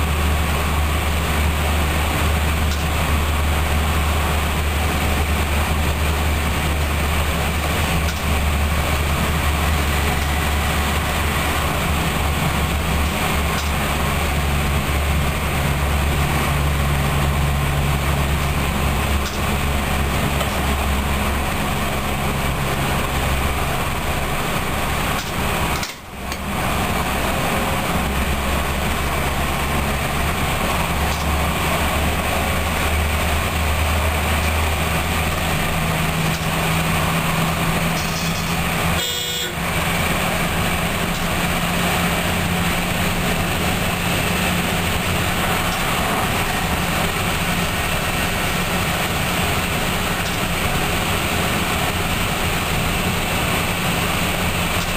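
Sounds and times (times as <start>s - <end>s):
train engine drone: 0.0s - 54.9s
train rolling noise: 0.0s - 54.9s.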